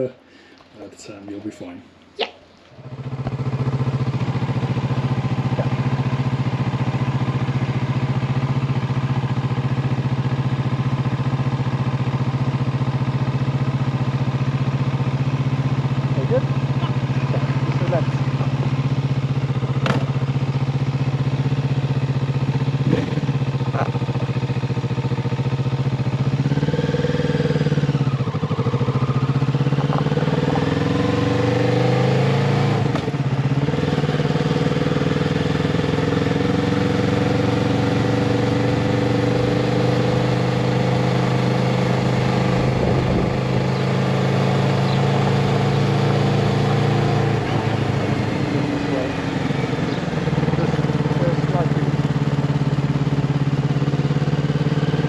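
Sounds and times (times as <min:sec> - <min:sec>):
motorcycle engine: 0:02.6 - 0:55.0.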